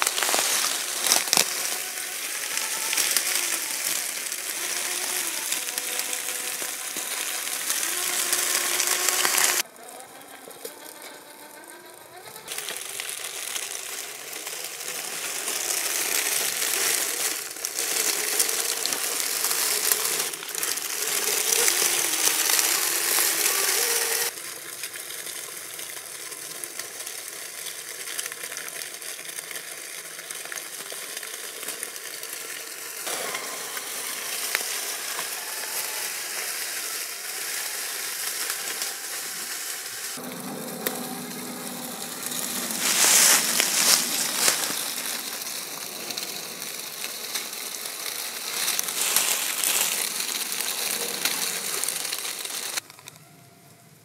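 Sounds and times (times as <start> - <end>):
tyres crunching through dry leaves: 0.0 - 53.4.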